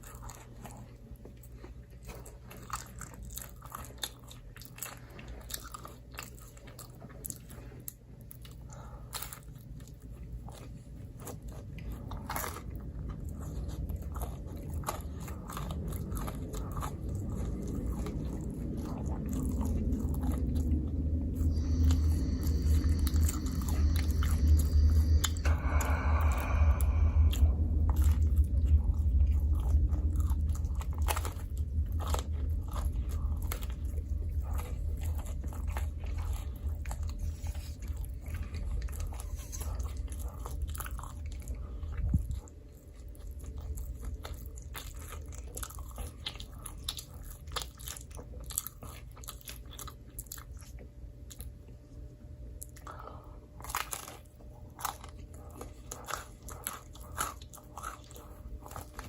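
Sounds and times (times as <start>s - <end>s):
biting and chewing pizza: 0.0s - 59.0s
low hum: 0.0s - 59.0s.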